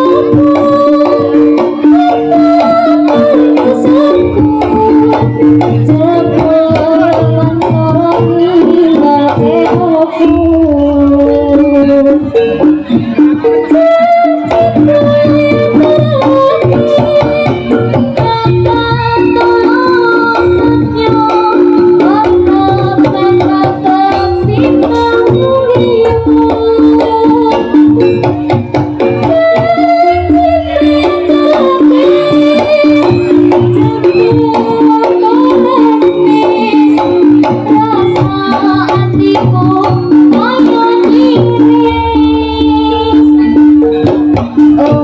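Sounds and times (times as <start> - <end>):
hand drums busy rhythm: 0.0 - 45.0
pitch-bending melody: 0.0 - 45.0.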